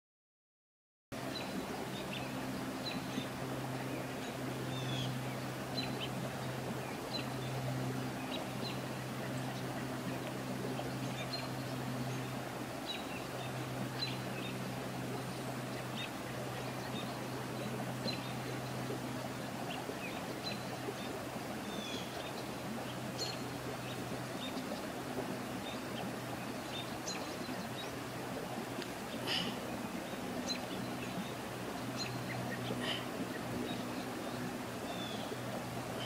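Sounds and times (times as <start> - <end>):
low hum and hiss: 1.2 - 36.0.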